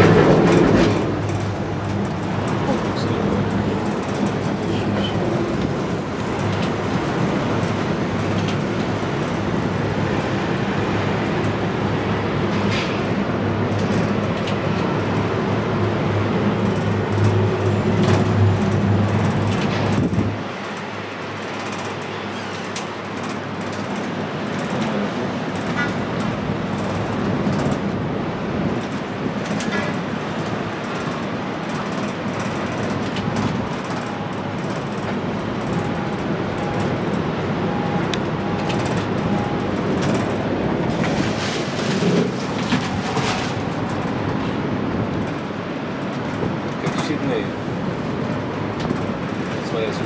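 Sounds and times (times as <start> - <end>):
cable car rushing noise: 0.0 - 50.0.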